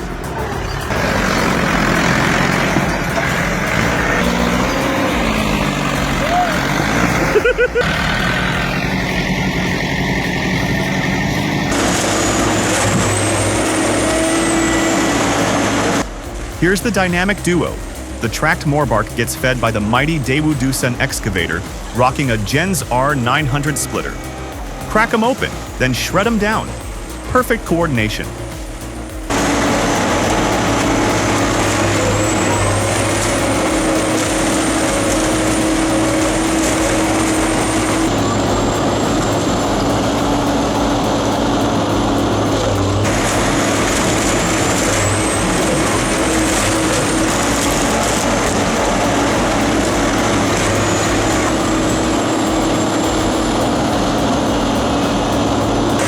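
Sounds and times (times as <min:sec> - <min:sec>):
diesel machinery running: 0:00.0 - 0:56.0
thin high machine whine: 0:00.0 - 0:56.0.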